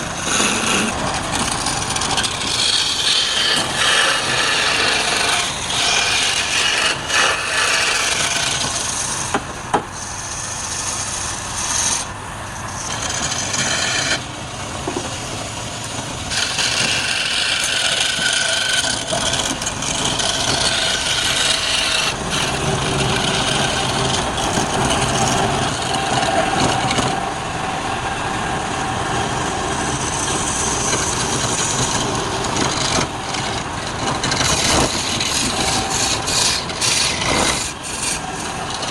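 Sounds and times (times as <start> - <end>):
turning tool scraping spinning wood: 0.0 - 9.4, 10.0 - 14.3, 16.1 - 27.2, 30.1 - 38.9
lathe motor hum: 0.0 - 38.9.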